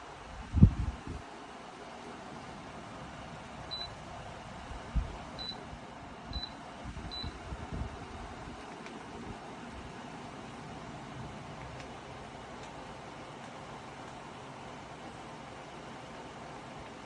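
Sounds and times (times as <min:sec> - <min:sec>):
fan air rushing: 0:00.0 - 0:17.0.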